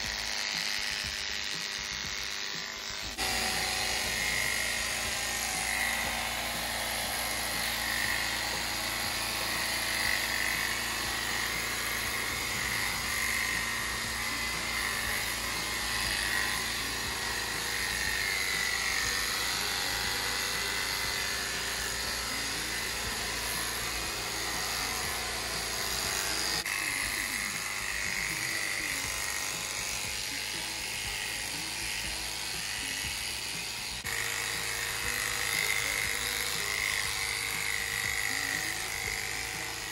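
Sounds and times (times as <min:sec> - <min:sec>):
electric clippers buzzing: 0:00.0 - 0:39.9.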